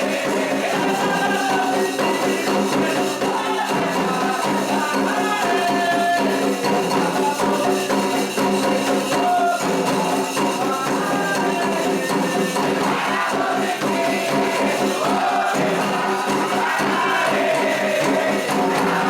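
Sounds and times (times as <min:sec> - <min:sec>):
hand percussion: 0:00.0 - 0:19.0
shaker rattle: 0:00.0 - 0:19.0.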